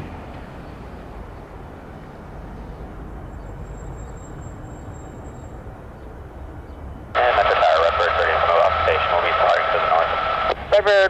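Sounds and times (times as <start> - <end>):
airliner jet engines rumbling: 0.0 - 11.0.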